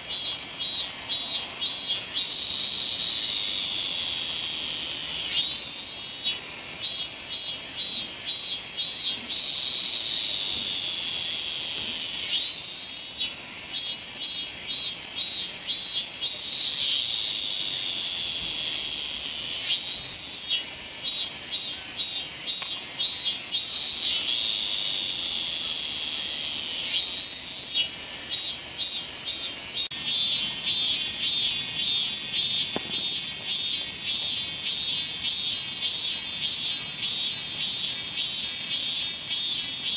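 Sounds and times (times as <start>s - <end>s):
cicada singing in pulses: 0.0s - 39.9s.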